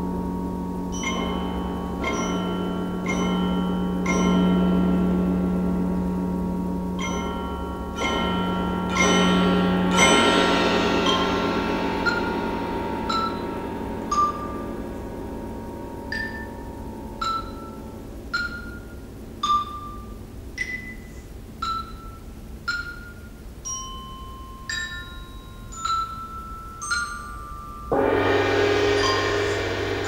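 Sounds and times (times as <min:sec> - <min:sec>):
loud ringing stroke: 0:00.0 - 0:20.2, 0:25.6 - 0:30.0
bell-like mallet notes: 0:00.0 - 0:30.0.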